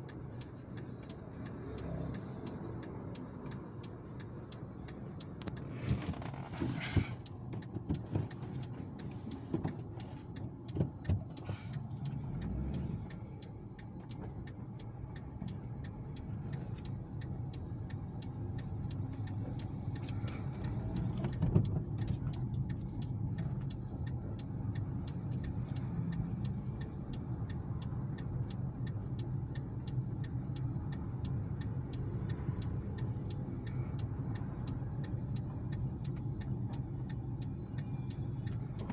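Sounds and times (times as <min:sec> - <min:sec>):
low engine rumble: 0:00.0 - 0:38.9.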